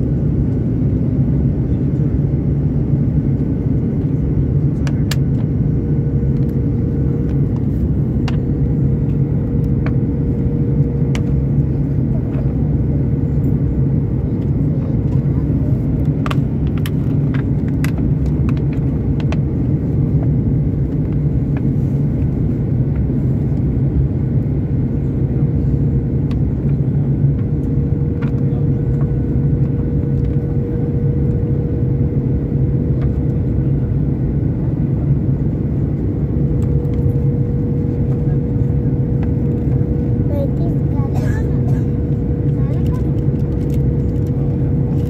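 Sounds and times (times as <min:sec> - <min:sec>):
jet engine and airflow drone: 0:00.0 - 0:45.0.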